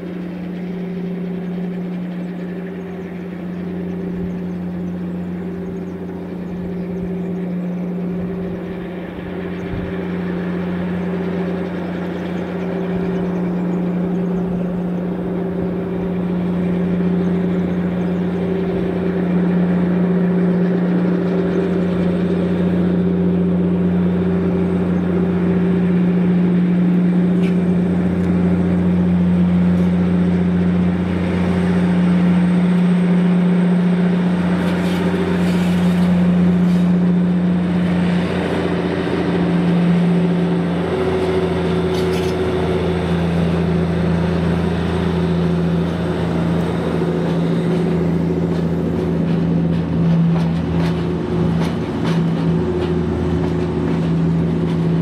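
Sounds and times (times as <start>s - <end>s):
diesel locomotive engine droning: 0.0s - 55.0s.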